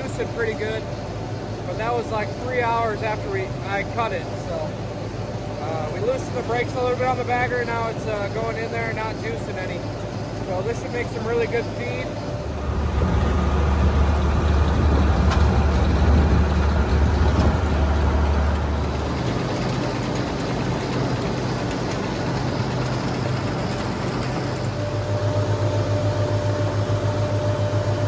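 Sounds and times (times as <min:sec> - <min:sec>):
farm machinery drone: 0:00.0 - 0:28.0
higher steady hum: 0:00.0 - 0:28.0.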